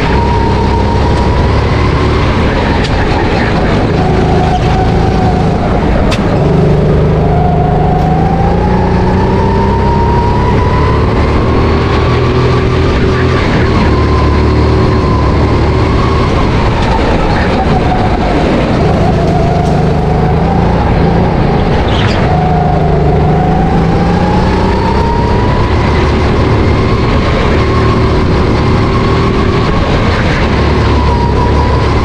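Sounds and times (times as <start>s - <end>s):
go-kart engine running: 0.0s - 32.0s.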